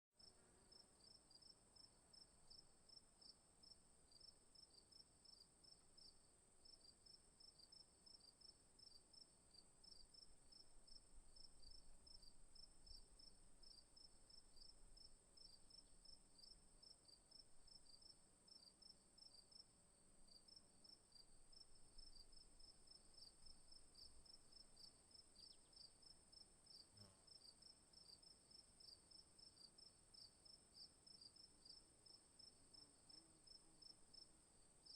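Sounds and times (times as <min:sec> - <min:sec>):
crickets chirping: 0:00.2 - 0:34.9.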